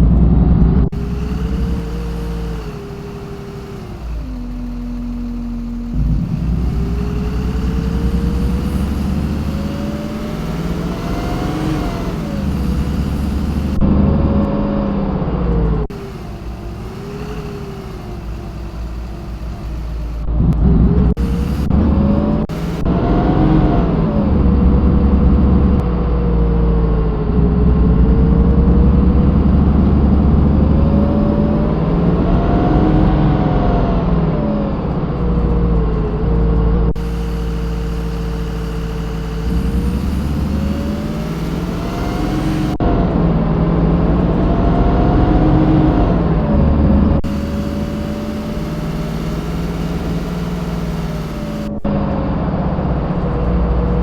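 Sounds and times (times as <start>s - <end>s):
bus drivetrain running: 0.0s - 54.0s
steady low rumble: 0.0s - 54.0s.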